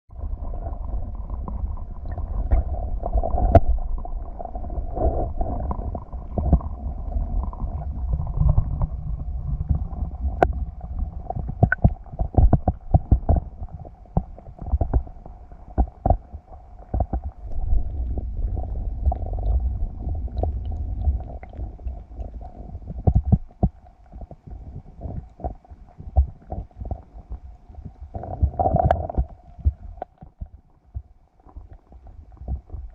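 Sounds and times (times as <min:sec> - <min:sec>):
muffled underwater rumble: 0:00.1 - 0:32.9.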